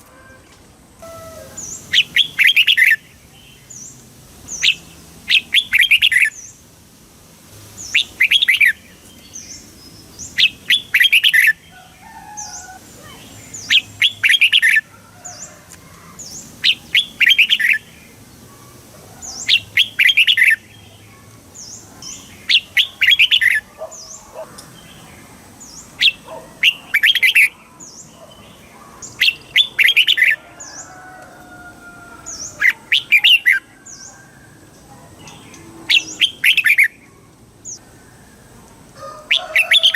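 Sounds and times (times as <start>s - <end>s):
bird singing bright phrases: 0.0s - 6.6s, 7.7s - 31.1s, 32.2s - 38.5s.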